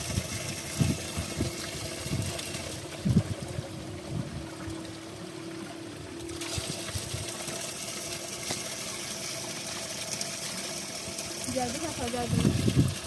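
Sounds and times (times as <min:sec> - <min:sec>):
spring water splashing: 0:00.0 - 0:13.0.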